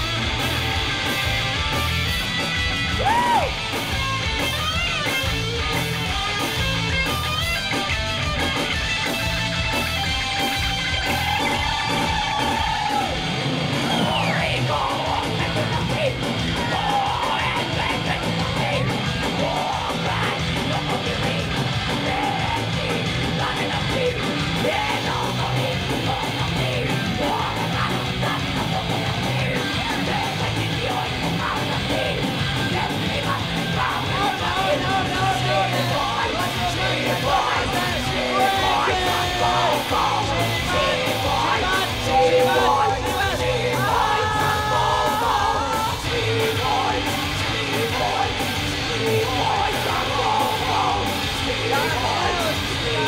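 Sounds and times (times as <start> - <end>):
distorted electric guitar: 0.0 - 53.0
fast steady drum beat: 0.0 - 53.0
yelled vocals: 0.0 - 53.0.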